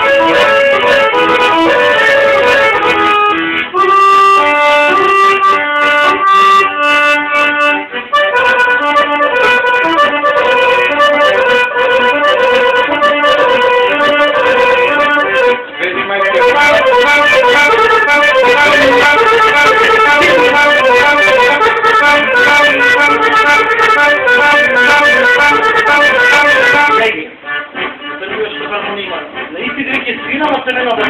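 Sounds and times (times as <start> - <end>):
accordion melody: 0.0 - 31.0.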